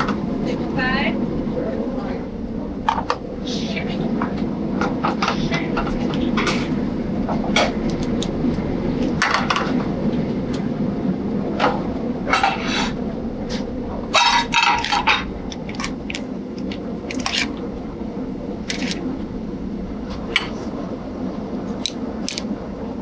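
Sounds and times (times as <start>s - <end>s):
low kitchen hum: 0.0s - 23.0s.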